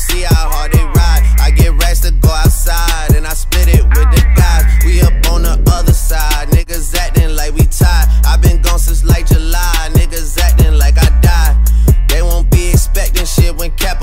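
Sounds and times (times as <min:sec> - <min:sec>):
rapping over a heavy bass beat: 0:00.0 - 0:14.0.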